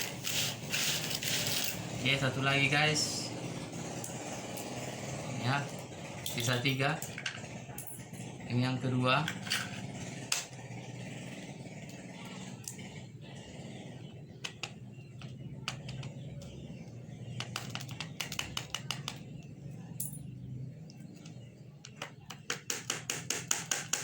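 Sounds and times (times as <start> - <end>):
steady low hum: 0.0 - 22.3.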